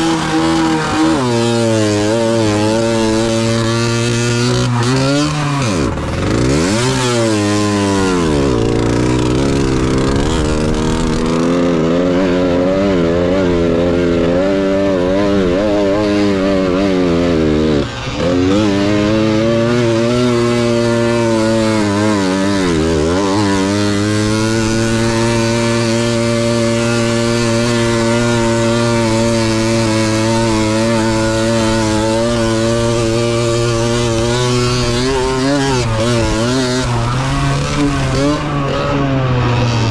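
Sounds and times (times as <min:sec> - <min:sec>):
moped engine revving: 0:00.0 - 0:39.9.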